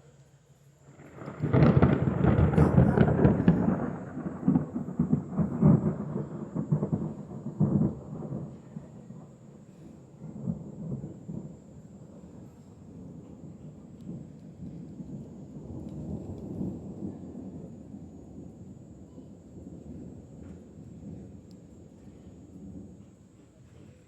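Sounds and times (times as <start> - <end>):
thunder crash and rumble: 0.9 - 23.4.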